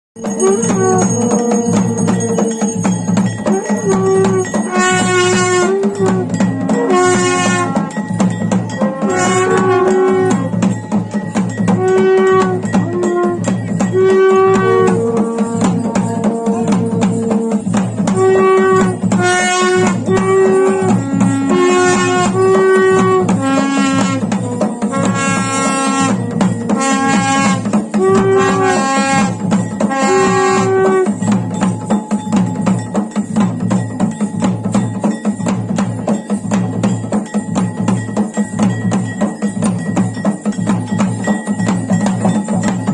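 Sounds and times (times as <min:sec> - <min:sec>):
fast steady drumming: 0:00.2 - 0:42.9
wind instrument melody: 0:00.2 - 0:42.9.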